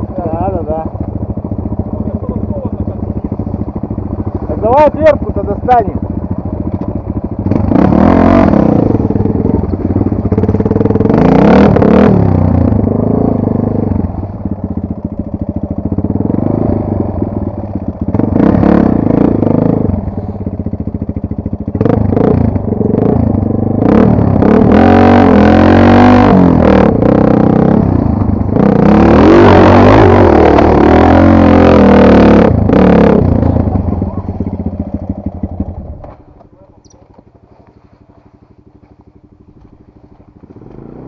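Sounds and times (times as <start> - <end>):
dirt bike engine revving: 0.0 - 36.3, 38.8 - 41.0.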